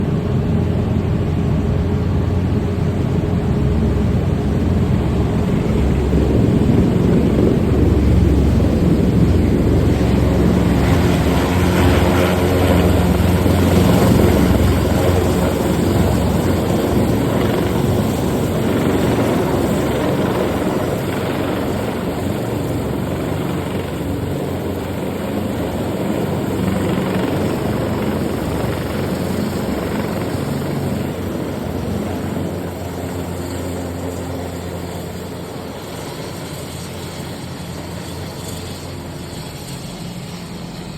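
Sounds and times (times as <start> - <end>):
helicopter running: 0.0 - 40.9.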